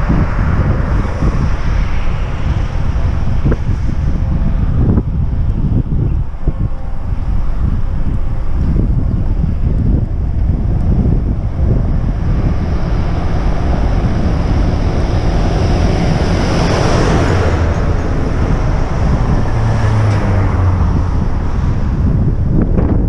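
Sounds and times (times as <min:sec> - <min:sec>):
tractor passing: 0:00.0 - 0:23.0
traffic passing: 0:00.0 - 0:23.0
truck engine drone: 0:00.0 - 0:23.0
wind rushing over microphone: 0:00.0 - 0:23.0.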